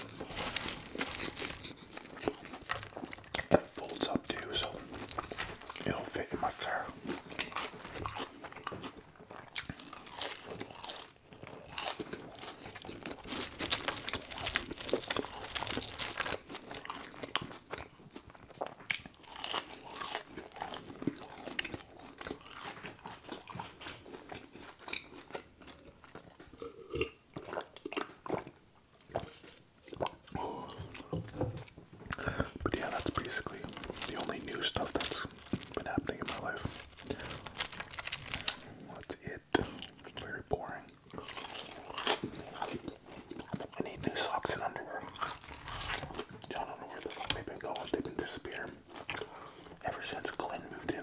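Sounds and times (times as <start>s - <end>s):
crunchy chewing of fries: 0.0s - 51.0s.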